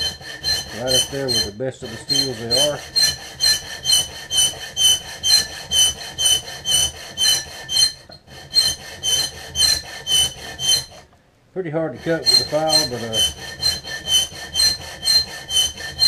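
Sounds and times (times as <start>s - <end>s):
hand file rasping on steel: 0.0s - 11.1s, 11.7s - 16.0s.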